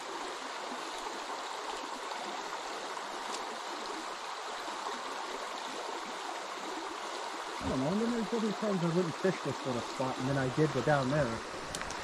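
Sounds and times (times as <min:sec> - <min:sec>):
water rushing over stones: 0:00.0 - 0:12.0.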